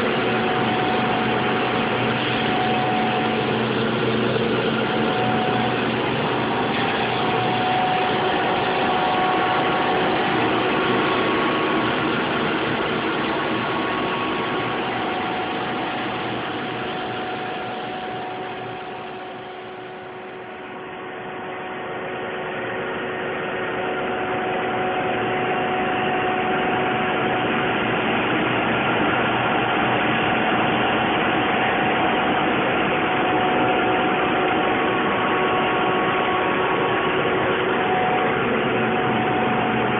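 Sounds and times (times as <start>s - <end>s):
heat pump plant humming: 0.0s - 39.9s.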